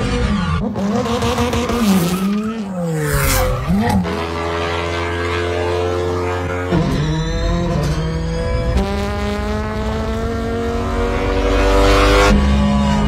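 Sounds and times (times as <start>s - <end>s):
race car engine revving: 0.0s - 13.0s
steady engine drone: 0.0s - 13.0s.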